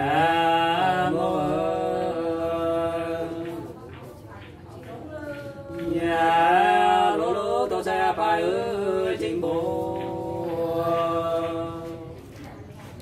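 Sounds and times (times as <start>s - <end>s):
unaccompanied folk singing: 0.0s - 13.0s.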